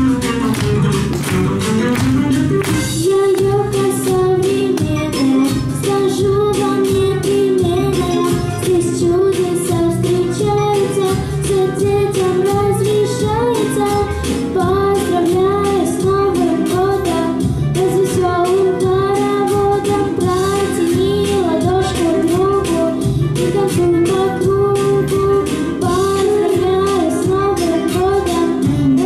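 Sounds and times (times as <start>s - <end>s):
instrumental accompaniment with beat: 0.0s - 29.0s
girl singing into microphone: 2.8s - 29.0s.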